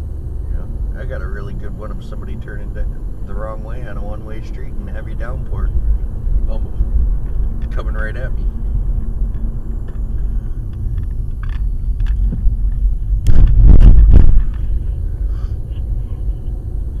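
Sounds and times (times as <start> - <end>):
car road rumble from inside cabin: 0.0 - 17.0.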